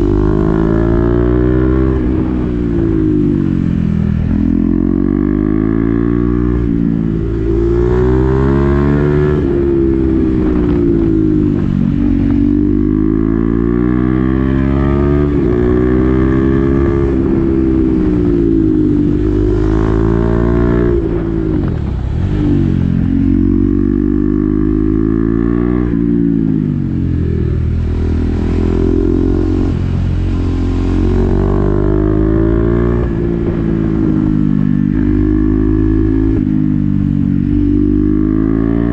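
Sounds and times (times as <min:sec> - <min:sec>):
motorcycle engine shifting through gears: 0:00.0 - 0:38.9.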